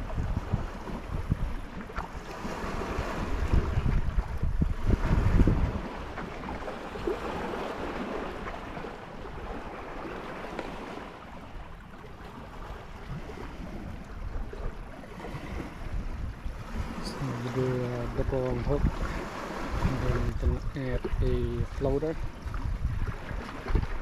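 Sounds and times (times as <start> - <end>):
water lapping at bank: 0.0 - 24.0
wind: 0.0 - 24.0.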